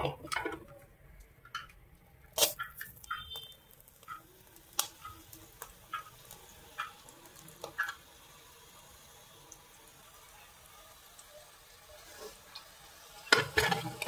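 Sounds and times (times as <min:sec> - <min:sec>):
hot oil sizzling and popping: 0:00.0 - 0:14.0.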